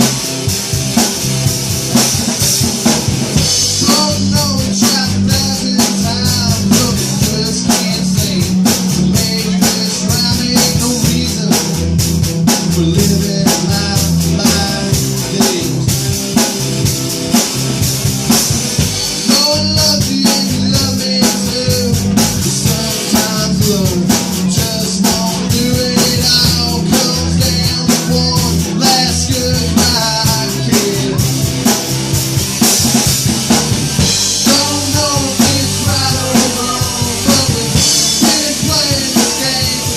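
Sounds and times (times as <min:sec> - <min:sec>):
drum kit beat: 0:00.0 - 0:39.9.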